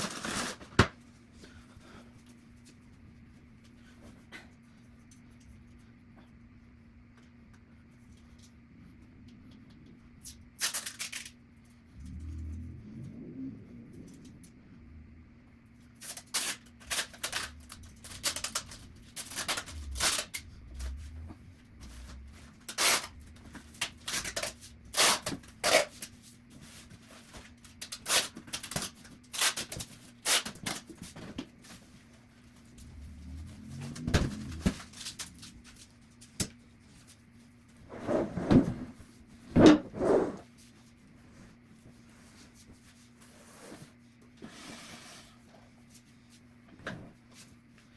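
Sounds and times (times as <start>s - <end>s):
steady low hum: 1.0s - 29.4s, 31.0s - 44.4s.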